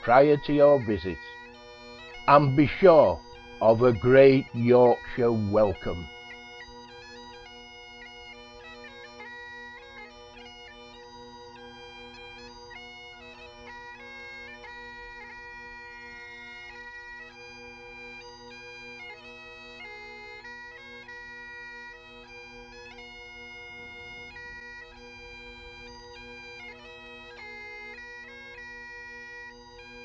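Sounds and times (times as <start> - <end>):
bagpipe music: 0.0 - 30.0.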